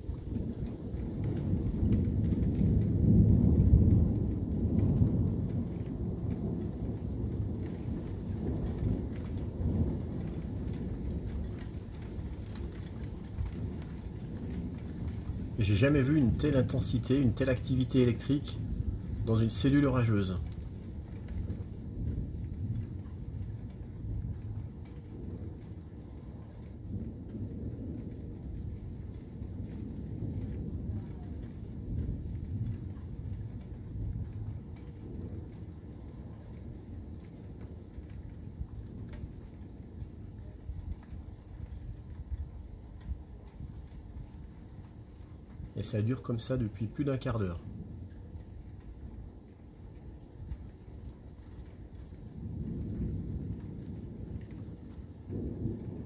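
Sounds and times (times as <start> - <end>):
rain falling: 0.0 - 56.0
thunder rumbling: 0.0 - 56.0.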